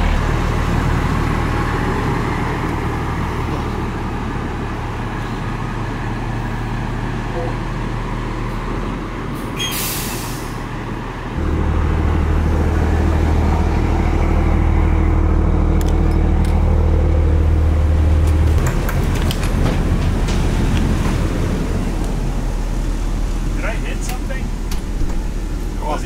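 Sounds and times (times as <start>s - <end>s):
bus diesel engine: 0.0s - 26.0s.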